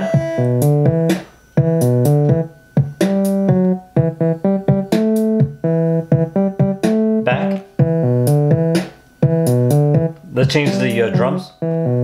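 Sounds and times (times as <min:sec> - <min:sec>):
electronic music chords: 0:00.0 - 0:12.0.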